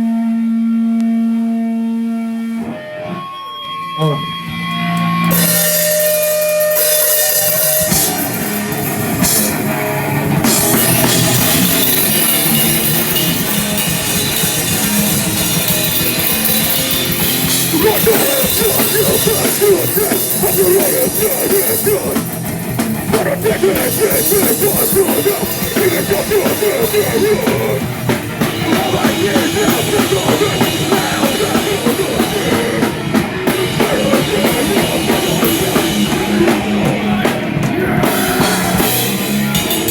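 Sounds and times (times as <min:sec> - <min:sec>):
sustained electric guitar notes: 0:00.0 - 0:39.9
live rock band playing: 0:02.6 - 0:39.9.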